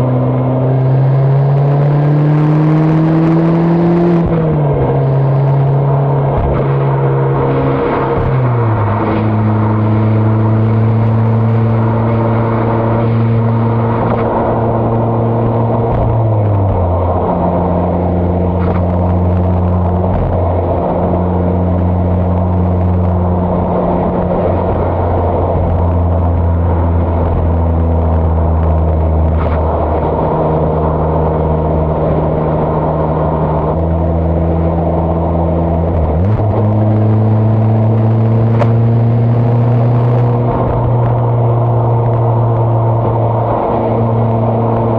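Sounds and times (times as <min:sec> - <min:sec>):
car engine and exhaust cruising: 0:00.0 - 0:44.9.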